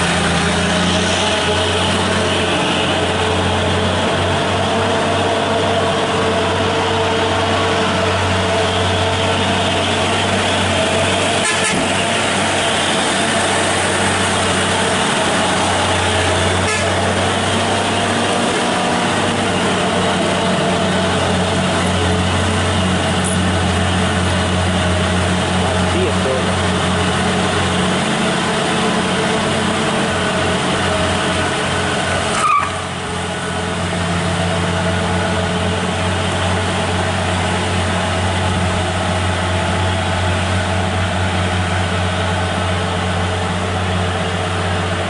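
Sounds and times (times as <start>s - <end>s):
truck engine droning: 0.0s - 45.0s.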